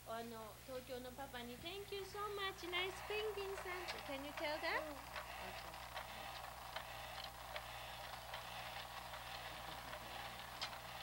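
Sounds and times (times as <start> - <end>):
electrical hum: 0.0 - 11.0
tape hiss: 0.0 - 11.0
faint clicks and ticks: 1.9 - 11.0.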